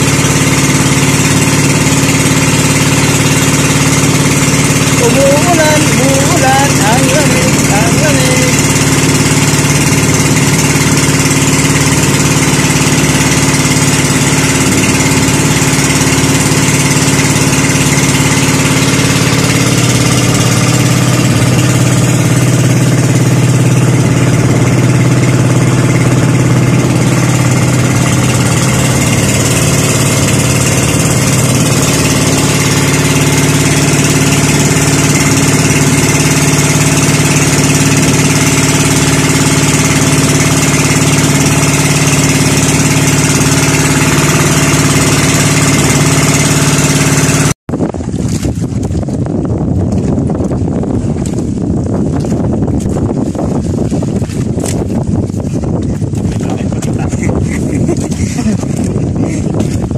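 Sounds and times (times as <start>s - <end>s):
boat engine droning: 0.0s - 59.9s.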